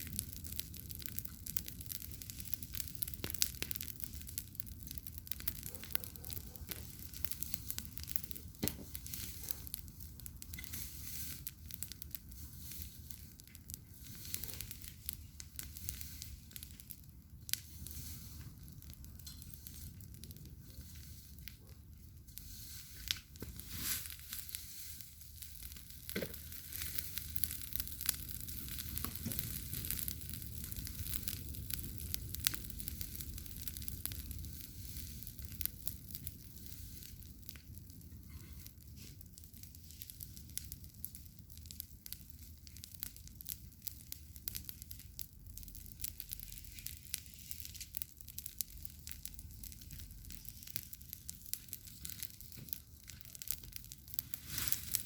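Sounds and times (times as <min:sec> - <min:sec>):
campfire crackling and hissing: 0:00.0 - 0:55.0
sharp fire pops: 0:00.0 - 0:55.0.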